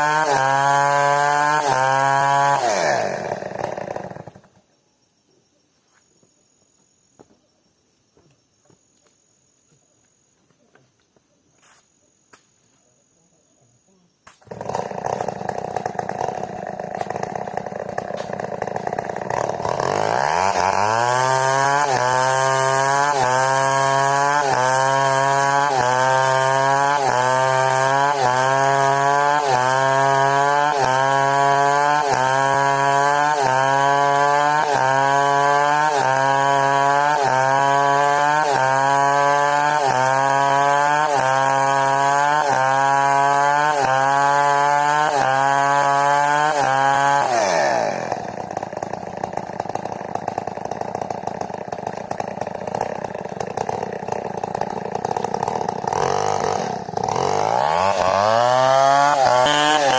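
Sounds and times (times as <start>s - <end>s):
chainsaw cutting timber: 0.0s - 4.6s, 14.2s - 59.9s.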